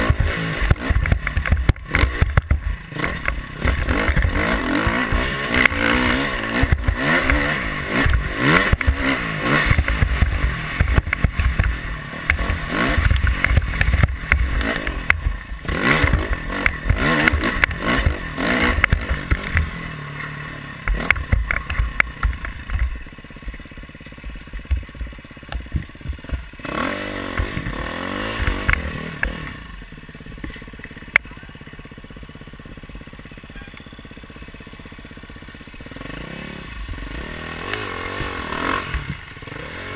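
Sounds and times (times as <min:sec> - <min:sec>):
bike rattling and knocking: 0:00.0 - 0:36.0
dirt bike engine revving: 0:00.0 - 0:39.9.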